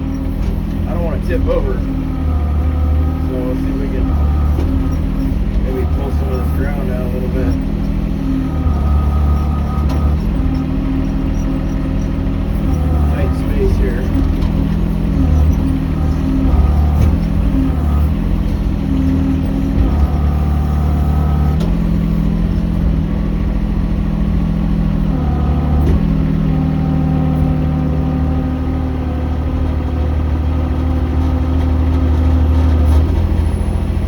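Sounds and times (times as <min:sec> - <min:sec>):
excavator diesel engine digging: 0:00.0 - 0:34.0.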